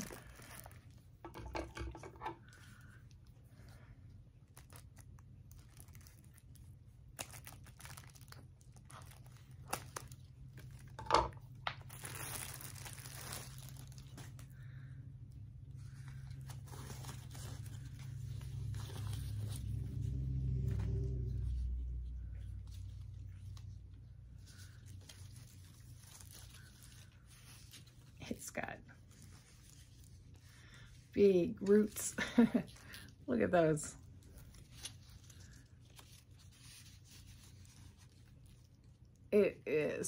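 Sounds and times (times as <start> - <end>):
plastic wrapping crinkling and tearing: 0.0 - 1.4, 2.4 - 20.8, 22.4 - 39.4.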